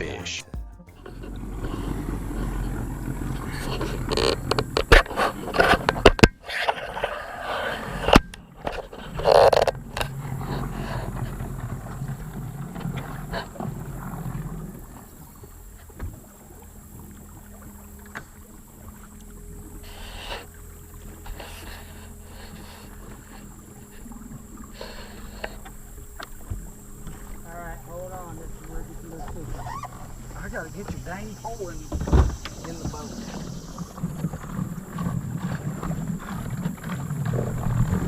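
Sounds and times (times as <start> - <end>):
faint steady hum: 0.0 - 38.0
knocks and scrapes in a boat: 1.0 - 38.0.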